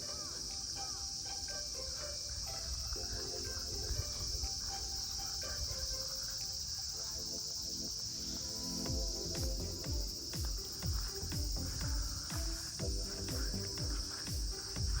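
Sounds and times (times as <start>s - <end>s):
insects chirring: 0.0s - 15.0s
music: 0.0s - 15.0s.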